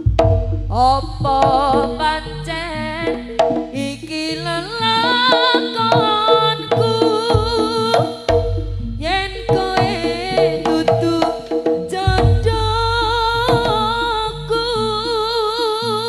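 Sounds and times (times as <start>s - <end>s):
deep low booms: 0.0s - 5.0s, 6.3s - 15.2s
hand drums: 0.0s - 14.3s
wavering sliding melody: 0.0s - 16.0s.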